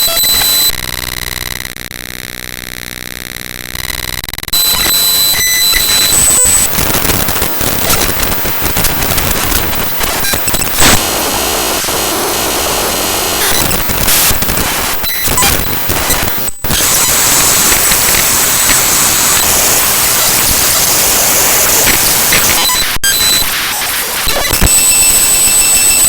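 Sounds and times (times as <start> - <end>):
harsh digital noise: 0.0 - 26.0.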